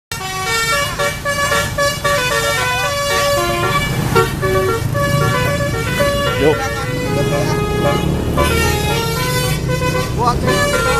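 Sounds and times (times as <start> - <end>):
bus musical horn melody: 0.1 - 10.9.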